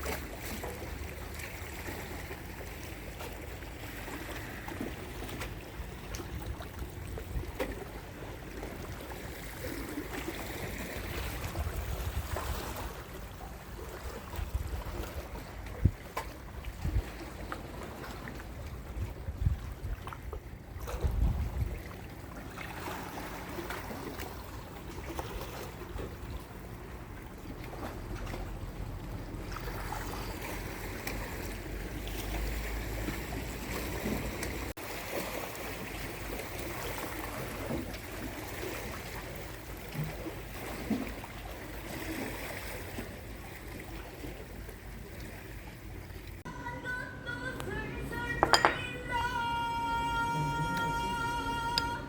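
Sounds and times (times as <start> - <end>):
sea waves washing: 0.0 - 15.6, 20.2 - 46.5
wind: 0.0 - 52.0.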